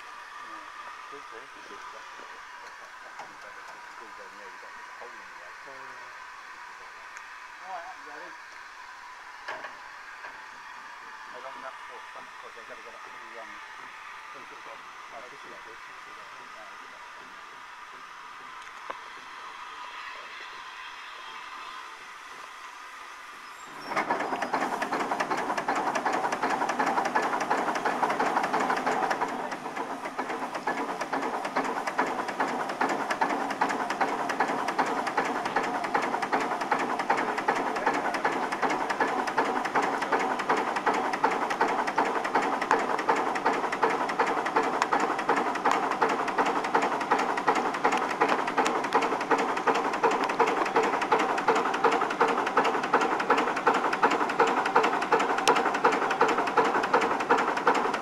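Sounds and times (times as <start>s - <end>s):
steam crane engine chuffing: 0.0s - 58.0s.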